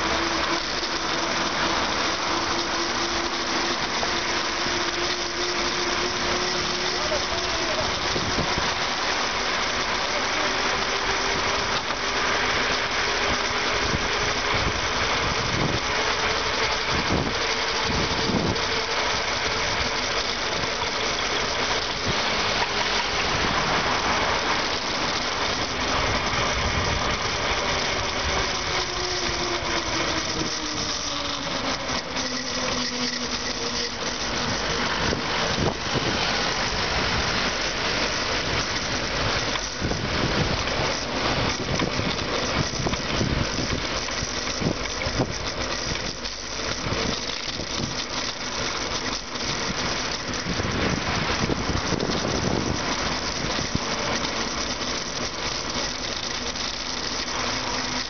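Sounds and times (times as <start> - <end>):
car and motorcycle engines: 0.0 - 48.4
wind and road noise: 0.0 - 58.0.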